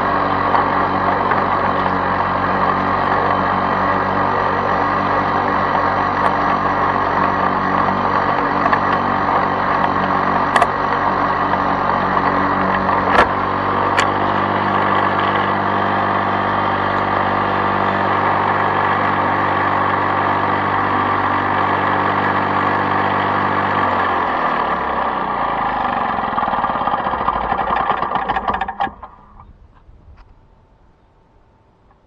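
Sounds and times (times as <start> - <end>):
lawn mower engine running: 0.0 - 32.0.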